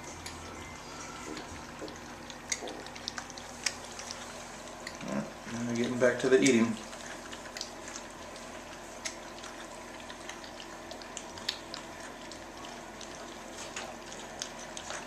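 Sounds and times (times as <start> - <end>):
puppies lapping and smacking food: 0.0 - 15.0
small clicks and ticks: 1.2 - 15.0.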